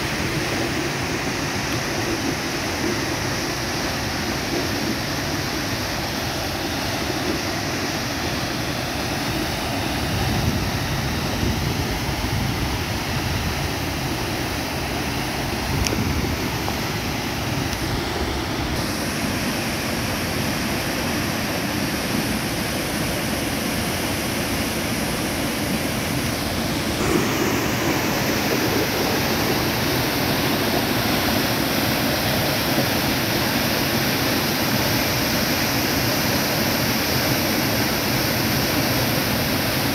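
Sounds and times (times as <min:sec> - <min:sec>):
water rushing down a spillway: 0:00.0 - 0:39.9.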